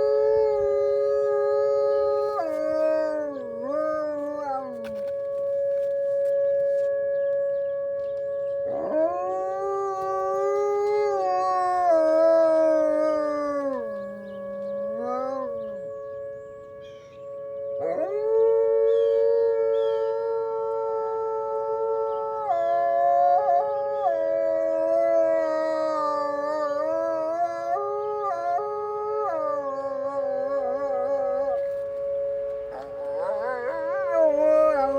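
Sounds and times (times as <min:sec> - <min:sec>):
dog howling: 0:00.0 - 0:06.9, 0:08.5 - 0:34.9.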